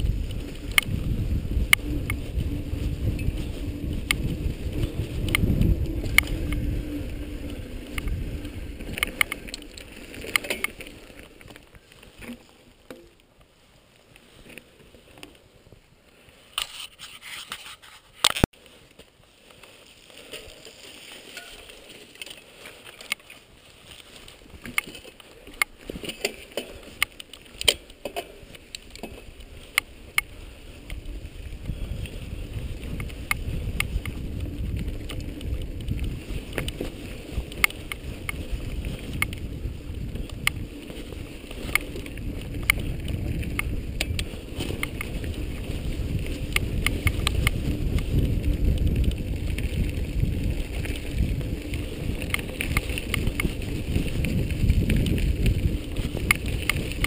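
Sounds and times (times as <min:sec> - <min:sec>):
wind rumbling on microphone: 0:00.0 - 0:12.9, 0:19.9 - 0:57.0.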